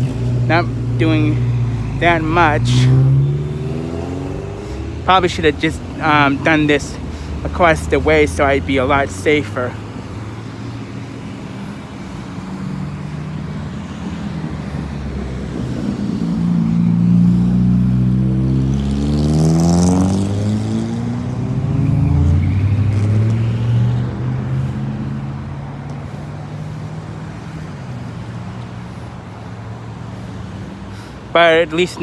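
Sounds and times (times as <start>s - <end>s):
vehicles driving past: 0.0s - 32.0s.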